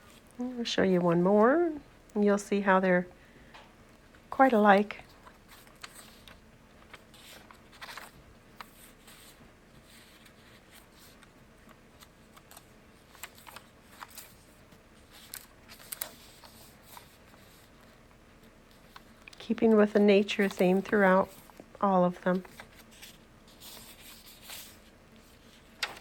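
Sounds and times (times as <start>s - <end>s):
paper pages rustling: 4.4s - 26.0s.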